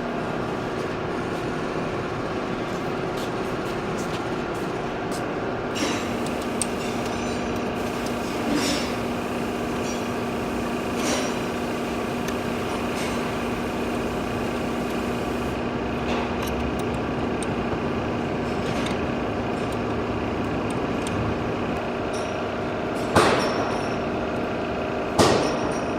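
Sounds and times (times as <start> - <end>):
steady mechanical hum: 0.0 - 25.9.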